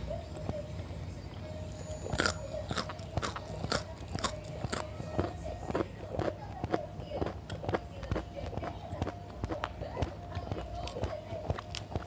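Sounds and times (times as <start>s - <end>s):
crunchy chewing of raw vegetables: 0.0s - 12.0s.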